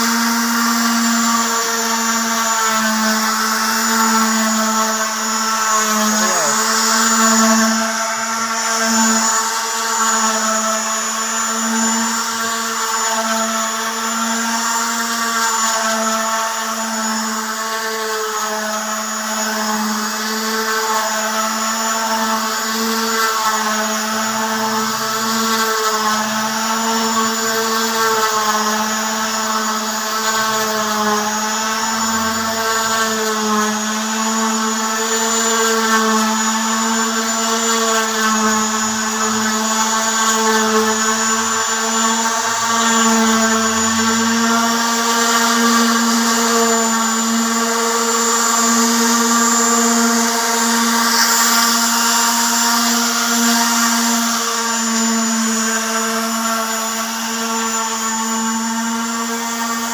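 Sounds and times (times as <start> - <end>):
electric sander whining: 0.0 - 59.9.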